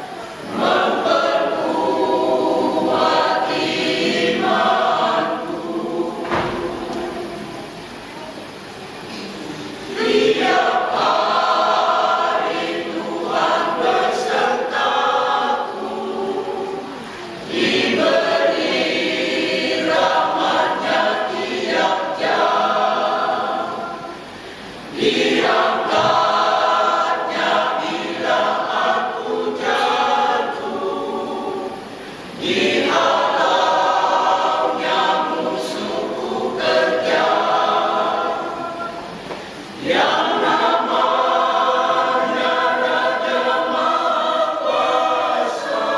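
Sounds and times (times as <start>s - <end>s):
choir singing: 0.0s - 7.8s, 9.8s - 45.9s.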